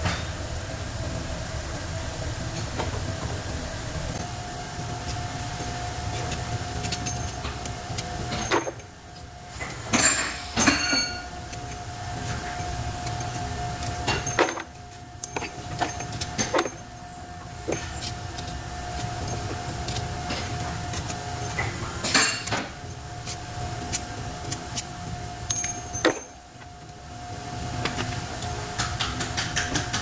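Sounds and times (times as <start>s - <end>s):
steady hum: 0.0s - 30.0s
tools and metal parts clicking: 4.2s - 30.0s.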